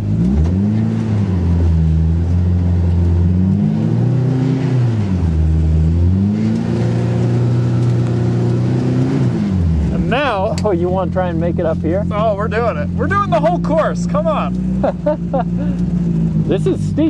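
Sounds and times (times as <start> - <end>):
engine revving under throttle: 0.0 - 17.0.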